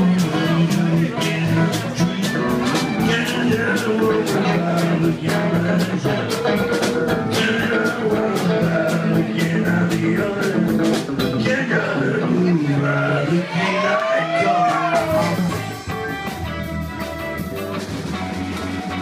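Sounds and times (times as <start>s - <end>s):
electric guitars: 0.0s - 19.0s
live rock band playing: 0.0s - 19.0s
upright double bass walking line: 0.0s - 19.0s.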